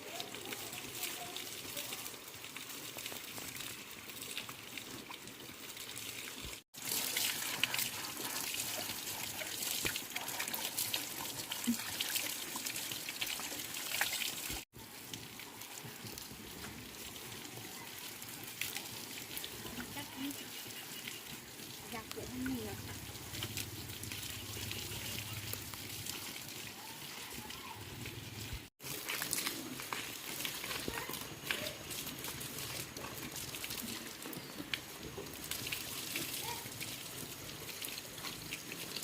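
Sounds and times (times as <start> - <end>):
water running and trickling: 0.0 - 39.0.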